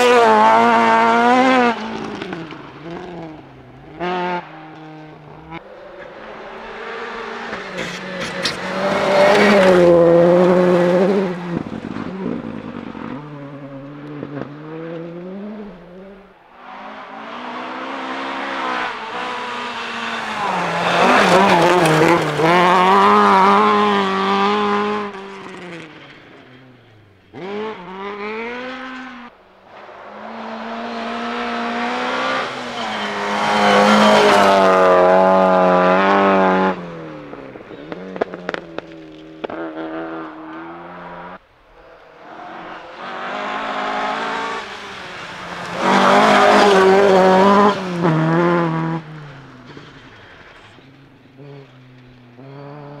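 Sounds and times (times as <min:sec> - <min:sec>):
rally car engines revving hard: 0:00.0 - 0:26.6, 0:27.3 - 0:53.0.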